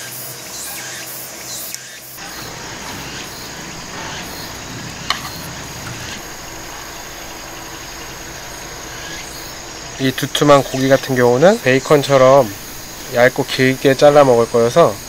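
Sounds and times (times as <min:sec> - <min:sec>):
insects chirring: 0:00.4 - 0:15.0.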